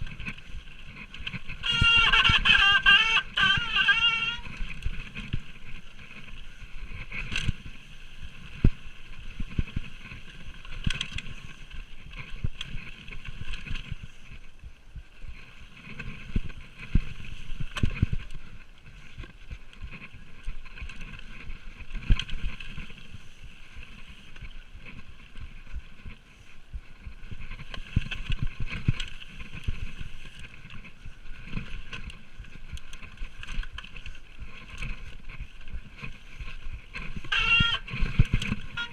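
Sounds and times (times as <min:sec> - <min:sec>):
bike knocking and rattling: 0:00.0 - 0:38.9
bike tyres rumbling over dirt: 0:00.0 - 0:38.9
wind on microphone: 0:00.0 - 0:38.9.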